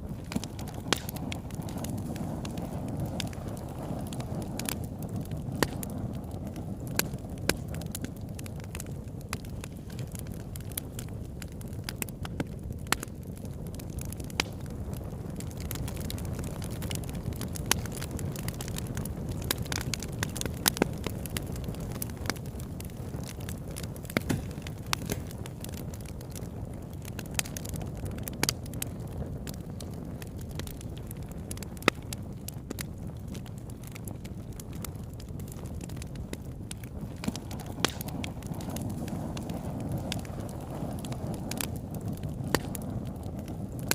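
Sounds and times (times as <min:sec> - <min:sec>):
burning wood crackling and popping: 0:00.0 - 0:43.9
campfire flames rushing: 0:00.0 - 0:43.9.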